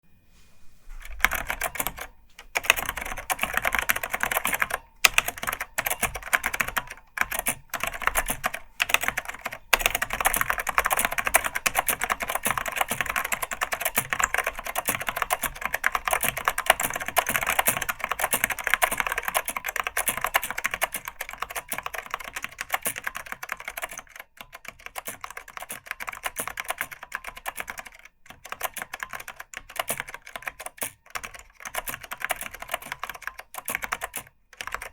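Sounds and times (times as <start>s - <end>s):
fast keyboard typing: 1.0s - 34.9s.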